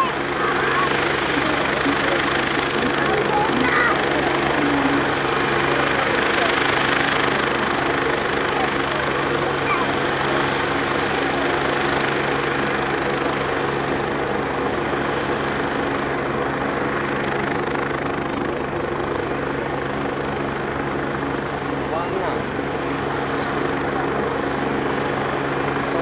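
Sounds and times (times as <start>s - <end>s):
helicopter rotor blades beating: 0.0s - 26.0s
helicopter turbine whine: 0.0s - 26.0s.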